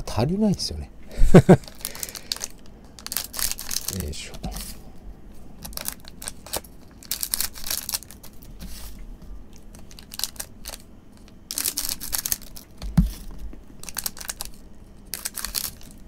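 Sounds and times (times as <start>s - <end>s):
plastic wrappers crinkling: 1.3s - 4.8s, 5.6s - 8.6s, 9.5s - 16.0s.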